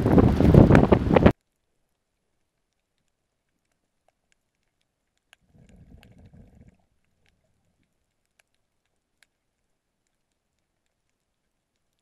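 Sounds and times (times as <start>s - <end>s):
low rumble of moving water: 0.0s - 12.0s
sharp underwater clicks: 0.2s - 12.0s.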